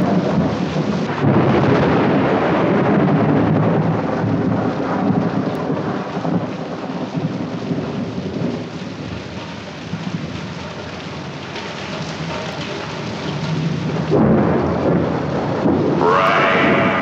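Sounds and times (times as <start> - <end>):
thunder rolling: 0.0 - 9.4, 12.7 - 17.0
heavy rain: 0.0 - 17.0.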